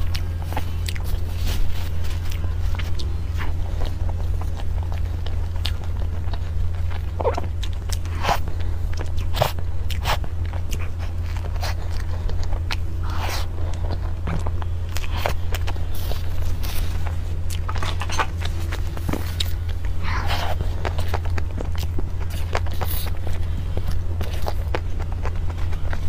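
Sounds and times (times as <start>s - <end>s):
person chewing with mouth clicks: 0.0s - 26.0s
steady low hum: 0.0s - 26.0s.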